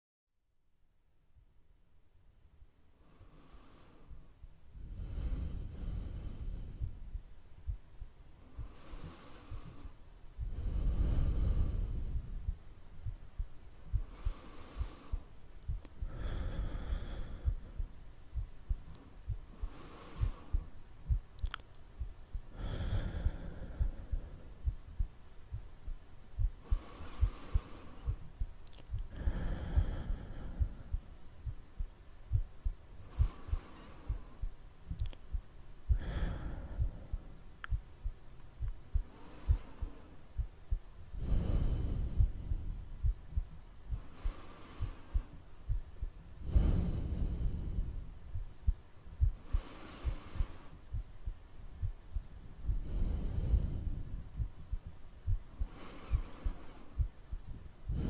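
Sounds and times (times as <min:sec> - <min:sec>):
slow deep breaths: 0:02.9 - 0:58.0
low heartbeat-like thumps: 0:04.1 - 0:58.0.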